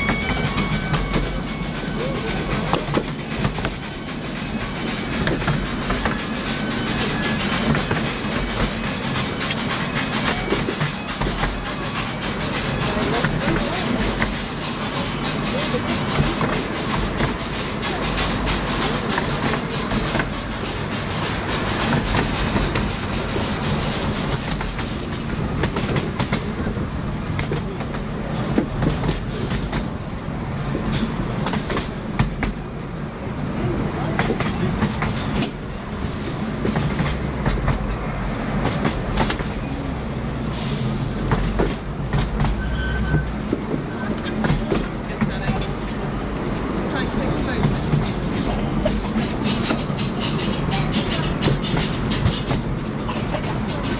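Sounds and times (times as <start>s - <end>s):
wheels clicking over rail joints: 0.0s - 30.0s, 30.6s - 35.8s, 36.6s - 39.8s, 41.2s - 53.9s
train rumble: 0.0s - 53.9s.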